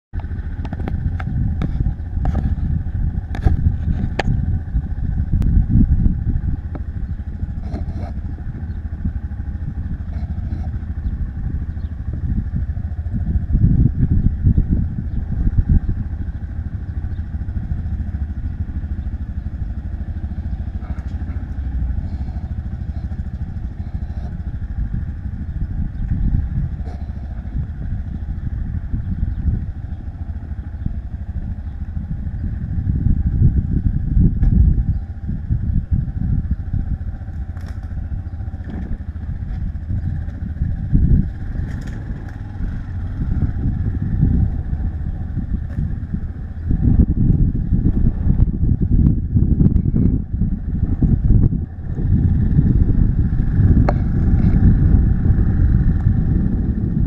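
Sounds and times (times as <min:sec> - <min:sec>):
wind rumble on microphone: 0:00.1 - 0:57.0
motorcycle engine running: 0:00.2 - 0:57.0.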